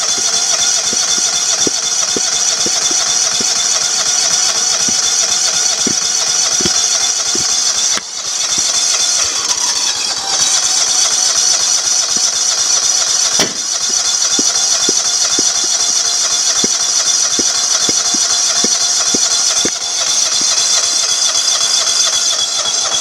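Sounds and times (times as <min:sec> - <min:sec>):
lawn tractor engine running: 0:00.0 - 0:23.0.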